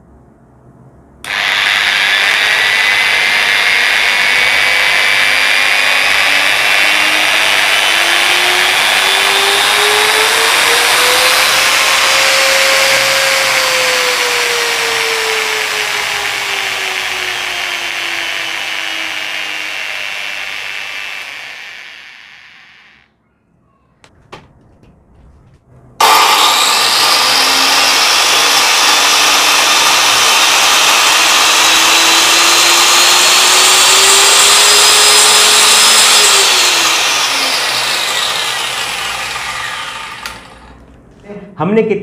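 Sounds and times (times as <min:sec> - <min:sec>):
angle grinder motor whine: 0:01.2 - 0:23.1, 0:26.0 - 0:40.9.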